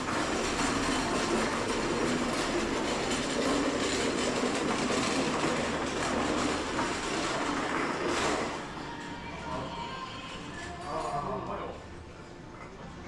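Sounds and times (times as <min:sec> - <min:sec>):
shopping arcade ambient rumble: 0:00.0 - 0:13.0.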